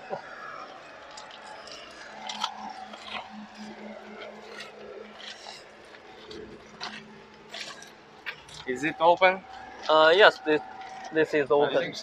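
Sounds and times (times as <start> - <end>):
steady low hum: 0.0 - 12.0
footsteps crunching on gravel: 1.0 - 12.0.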